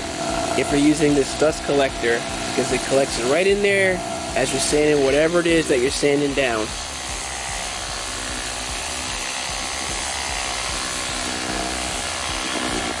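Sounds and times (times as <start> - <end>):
orbit sander sanding wood: 0.0 - 13.0.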